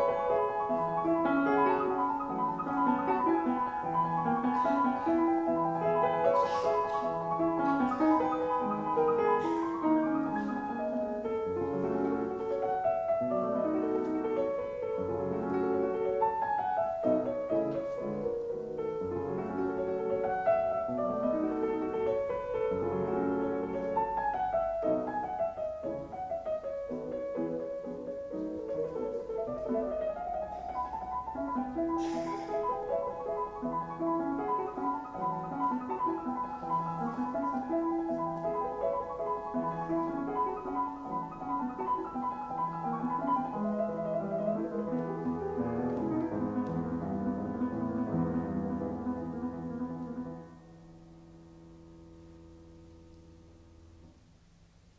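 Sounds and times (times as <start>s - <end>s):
gentle solo piano: 0.0s - 54.9s.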